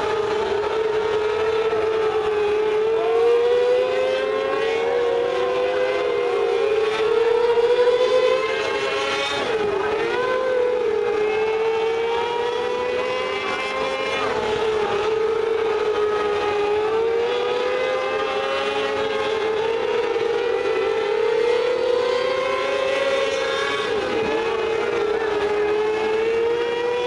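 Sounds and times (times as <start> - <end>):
racing car engines whining: 0.0 - 27.0.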